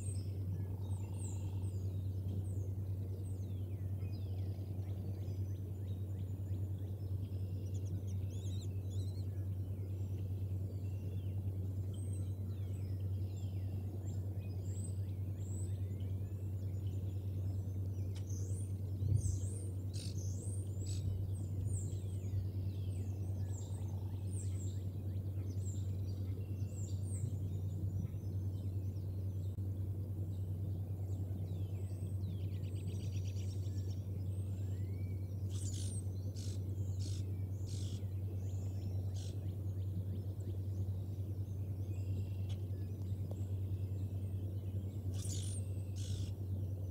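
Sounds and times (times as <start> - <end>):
small birds chirping: 0.0 - 46.9
steady low hum: 0.0 - 46.9.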